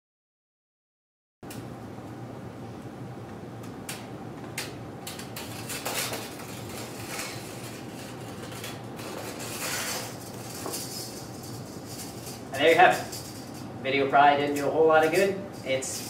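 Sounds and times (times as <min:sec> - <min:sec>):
steady low hum: 0:01.4 - 0:16.0.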